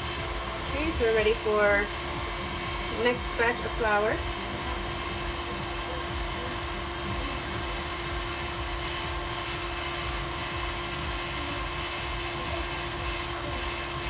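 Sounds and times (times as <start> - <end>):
stand mixer motor whirring: 0.0 - 14.0.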